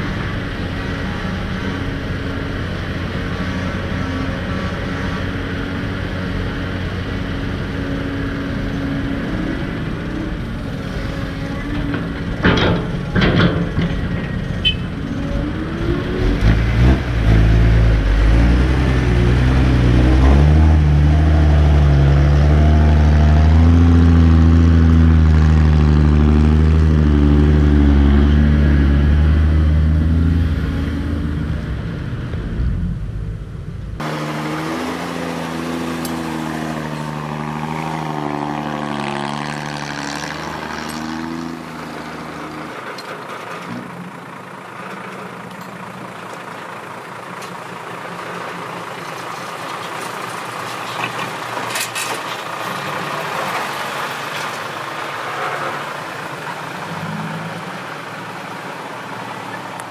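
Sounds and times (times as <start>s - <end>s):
diesel truck engine: 0.0s - 59.9s.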